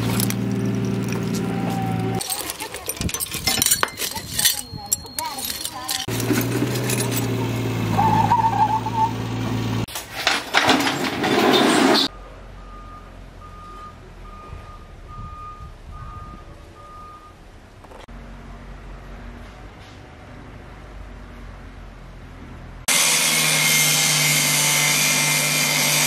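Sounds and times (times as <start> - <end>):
heavy vehicle engine humming: 0.0 - 10.0, 11.7 - 22.9.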